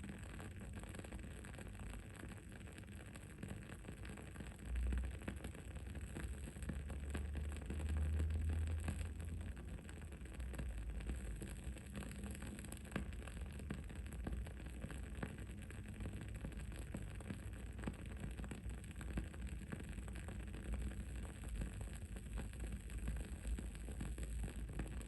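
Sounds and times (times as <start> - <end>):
candle crackling: 0.3 - 25.0.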